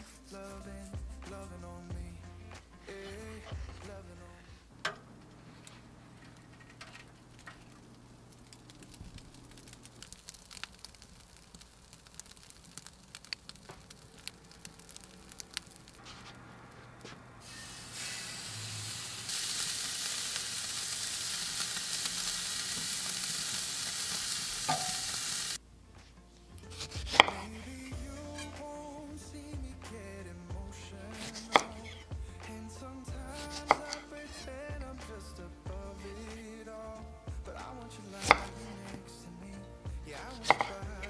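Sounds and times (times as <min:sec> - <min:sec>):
steak sizzling on grill: 0:05.4 - 0:25.6, 0:26.5 - 0:41.0.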